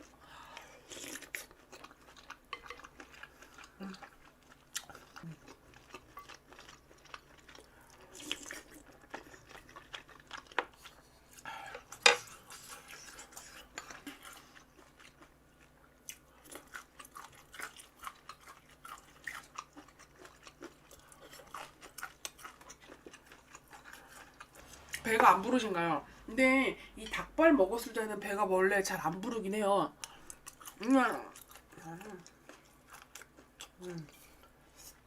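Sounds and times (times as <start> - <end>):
person chewing crunchy food: 0.0 - 25.1, 30.0 - 35.0.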